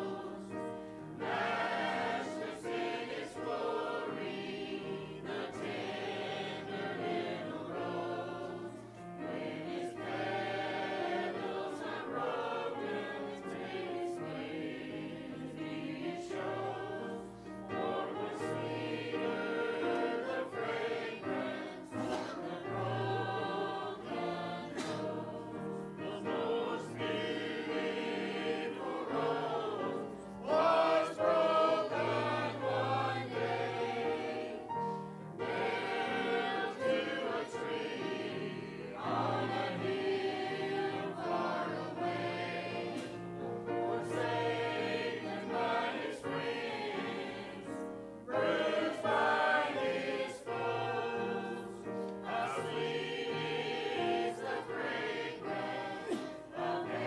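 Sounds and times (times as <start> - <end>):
church choir singing a hymn: 0.0 - 57.0.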